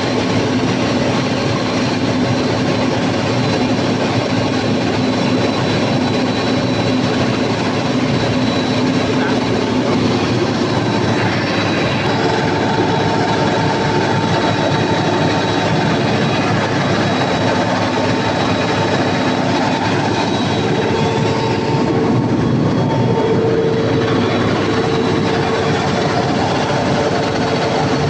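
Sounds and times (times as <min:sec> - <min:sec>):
diesel generator engine running: 0:00.0 - 0:28.0
steady whining tones: 0:00.0 - 0:28.0.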